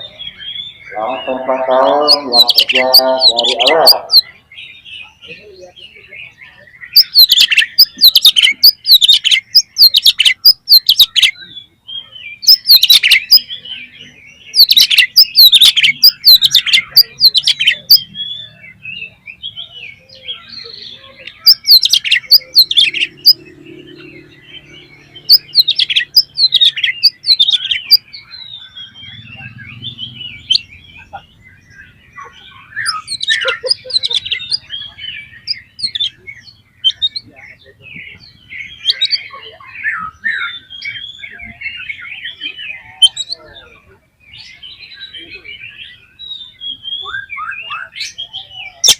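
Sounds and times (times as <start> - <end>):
magpie-robin singing: 0.0 - 48.9.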